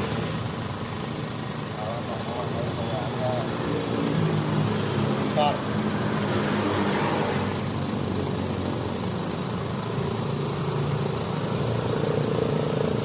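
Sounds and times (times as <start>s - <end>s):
grass-cutter engine running steadily: 0.0s - 13.0s.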